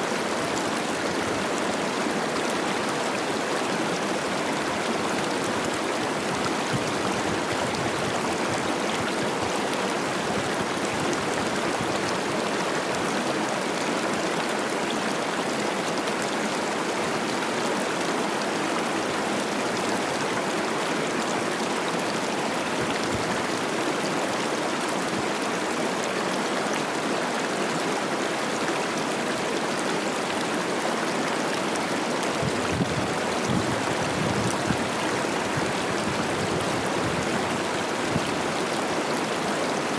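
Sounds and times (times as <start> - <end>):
fast water rushing over rocks: 0.0 - 39.9.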